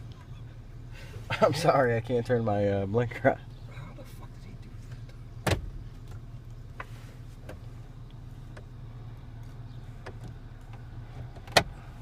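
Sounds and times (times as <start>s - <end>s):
truck engine drone and road noise: 0.0s - 12.0s.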